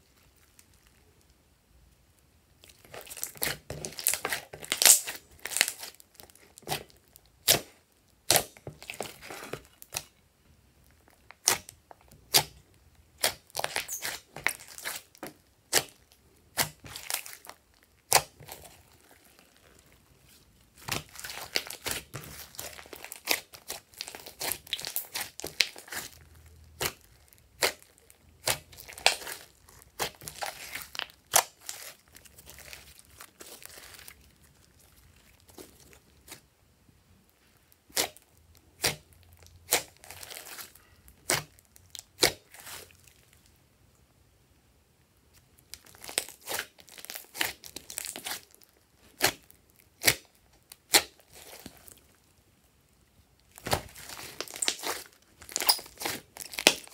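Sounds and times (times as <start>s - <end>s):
hands squishing slime: 2.6s - 10.2s, 10.9s - 36.5s, 37.4s - 43.4s, 45.5s - 52.2s, 53.4s - 56.9s.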